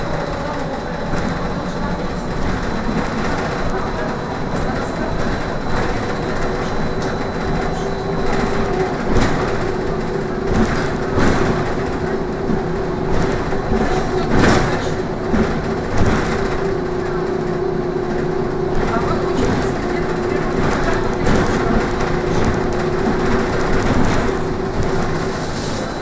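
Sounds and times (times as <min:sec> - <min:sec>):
bus body knocks and rattles: 0:00.0 - 0:26.0
trolleybus electric hum: 0:00.0 - 0:26.0.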